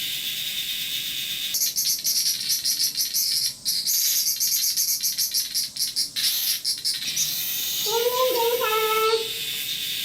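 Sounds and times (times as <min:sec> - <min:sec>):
cicada calling: 0:00.0 - 0:10.0.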